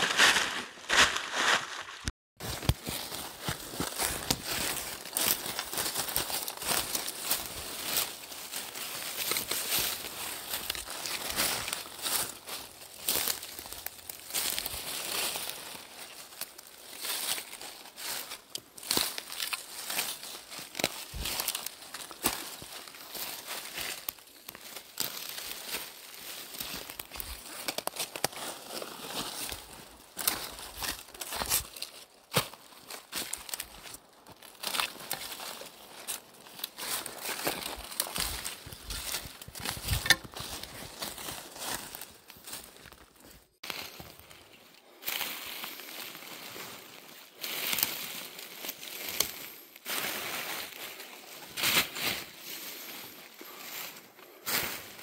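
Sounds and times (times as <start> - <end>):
footsteps crunching dry leaves: 0.0 - 55.0.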